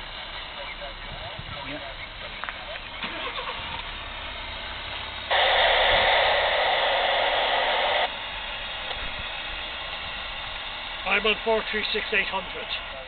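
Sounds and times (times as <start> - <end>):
radio static hiss: 0.0 - 3.7, 5.3 - 13.0.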